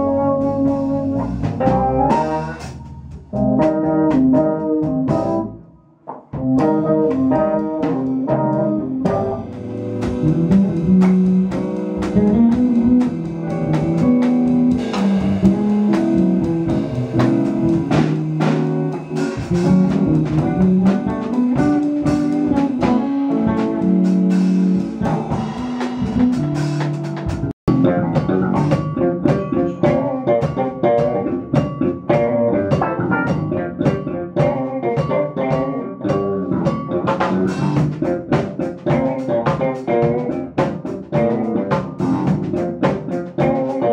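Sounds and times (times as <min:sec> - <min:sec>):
jazz-funk band playing: 0:00.0 - 0:43.9.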